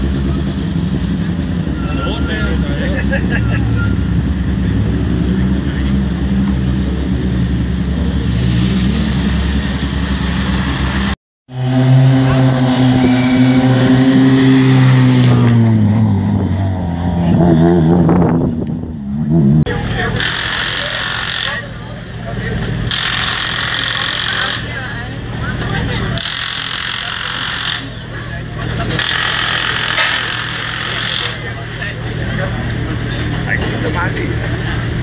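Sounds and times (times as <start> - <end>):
loud car engine: 0.0 - 35.0.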